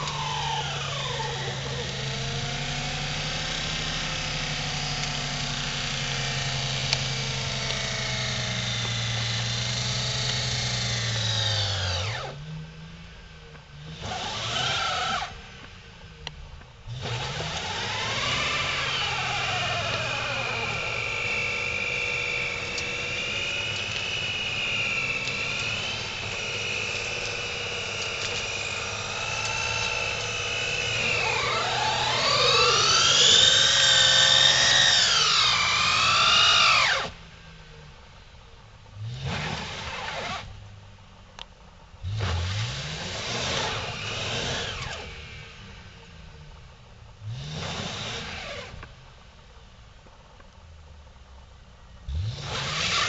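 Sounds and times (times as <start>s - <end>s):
wheels spinning on ice: 0.0s - 12.7s, 13.3s - 51.4s, 52.0s - 53.0s
car engine revving: 0.0s - 49.5s, 51.3s - 53.0s.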